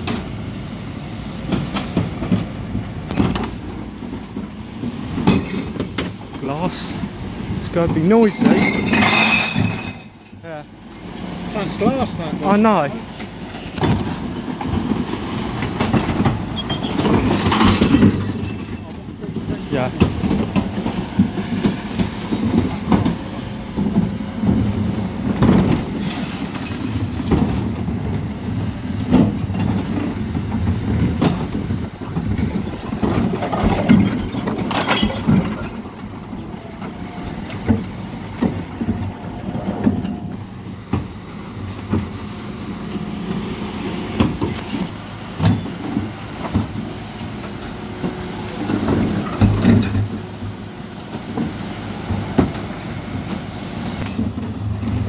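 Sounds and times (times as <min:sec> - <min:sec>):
refuse lorry running: 0:00.0 - 0:55.0
bins banging and clattering: 0:01.5 - 0:10.6, 0:11.4 - 0:55.0.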